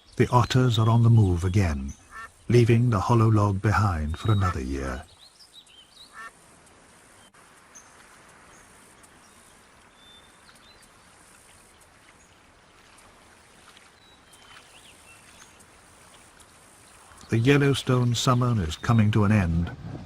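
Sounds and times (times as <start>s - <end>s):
soft steady hiss: 0.0s - 19.8s.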